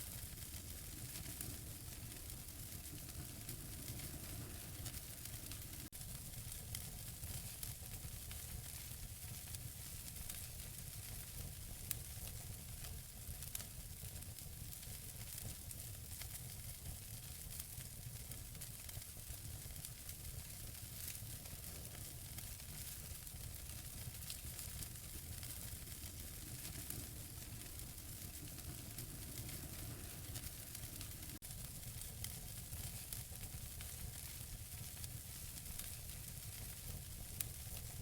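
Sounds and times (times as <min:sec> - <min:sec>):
fire hissing and rumbling: 0:00.0 - 0:38.0
logs crackling and popping: 0:00.1 - 0:12.5, 0:16.2 - 0:38.0.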